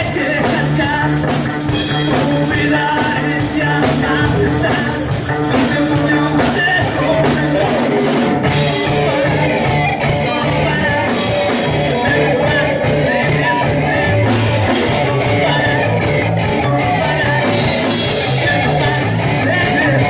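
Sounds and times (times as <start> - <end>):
bass guitar: 0.0 - 20.0
drum kit: 0.0 - 20.0
electric guitars: 0.0 - 20.0
person singing: 0.0 - 20.0.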